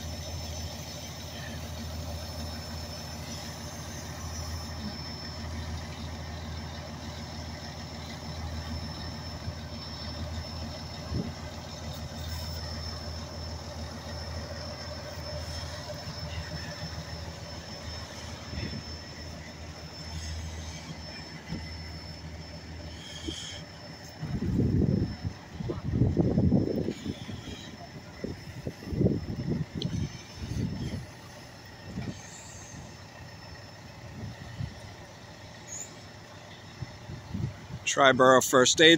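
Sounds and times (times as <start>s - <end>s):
fire engine idling: 0.0s - 38.9s.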